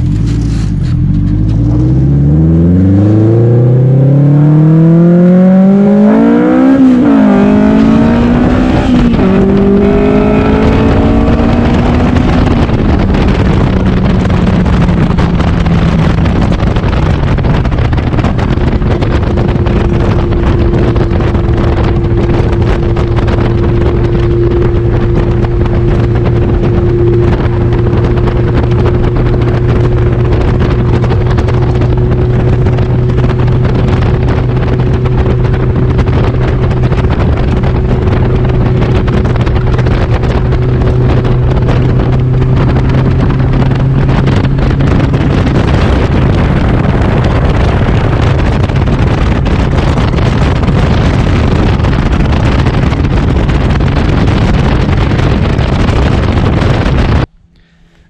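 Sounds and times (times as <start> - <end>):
car engine accelerating hard: 0.0 - 58.0
heavy wind noise: 0.0 - 58.0.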